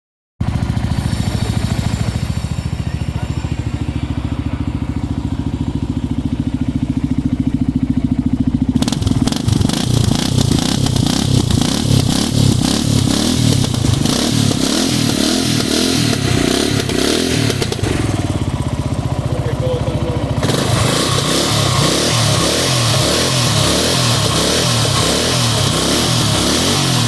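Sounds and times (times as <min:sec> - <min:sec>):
motorcycle engine idling and revving: 0:00.4 - 0:27.0.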